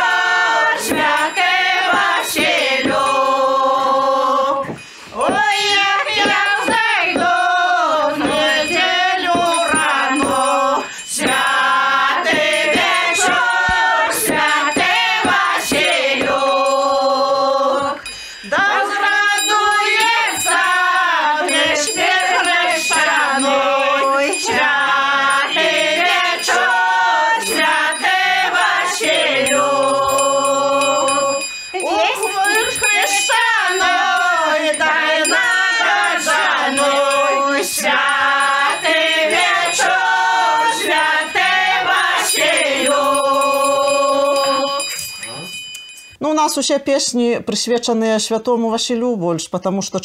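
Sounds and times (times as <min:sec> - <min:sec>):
women singing folk carol: 0:00.0 - 0:45.0.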